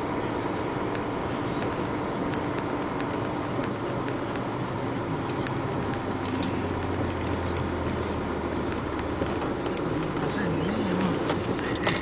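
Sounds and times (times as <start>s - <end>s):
truck engine low hum: 0.0s - 12.0s
light clicks and rattles: 0.3s - 12.0s.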